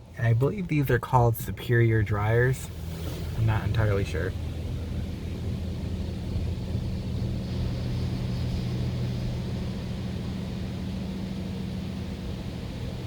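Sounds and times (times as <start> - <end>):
car wash machinery humming: 0.0 - 13.0.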